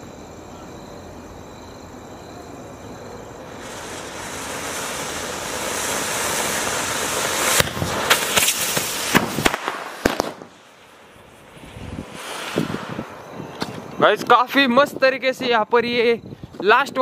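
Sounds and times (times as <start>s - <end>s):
firework hissing: 1.8s - 17.0s
firework cracks and bangs: 3.3s - 17.0s.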